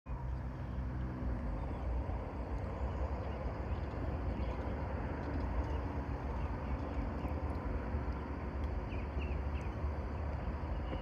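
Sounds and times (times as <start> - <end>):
faint hum: 0.1 - 11.0
low rumbling outdoor noise: 0.1 - 11.0.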